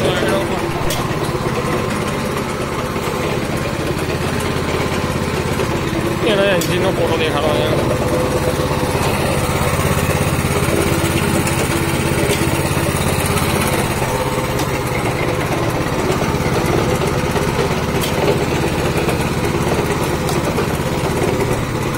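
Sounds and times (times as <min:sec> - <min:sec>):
small petrol engine running: 0:00.0 - 0:21.9.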